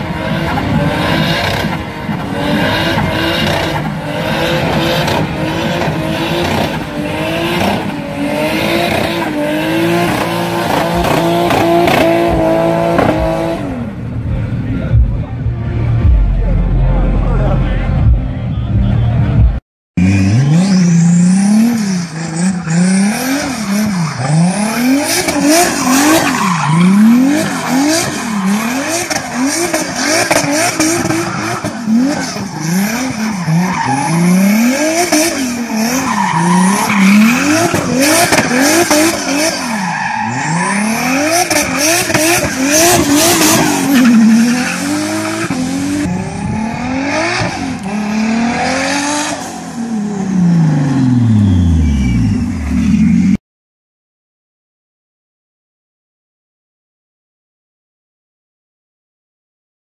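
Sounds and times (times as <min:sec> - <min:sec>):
car engine revving: 0:00.0 - 0:53.4.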